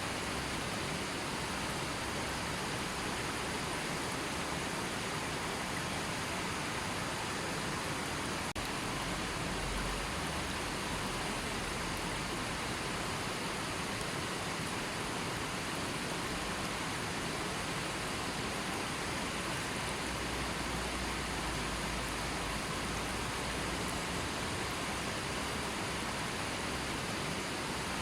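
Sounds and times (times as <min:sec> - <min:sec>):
river water flowing: 0:00.0 - 0:28.0.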